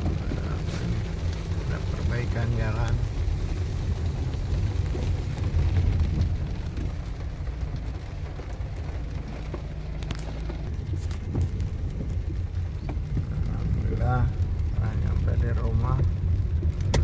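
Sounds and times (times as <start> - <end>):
low steady rumble: 0.0 - 17.0
rain falling: 0.0 - 17.0.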